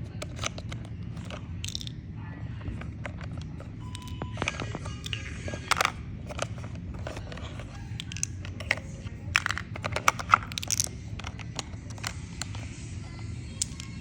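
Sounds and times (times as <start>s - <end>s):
plastic toys and packaging handled: 0.0s - 14.0s.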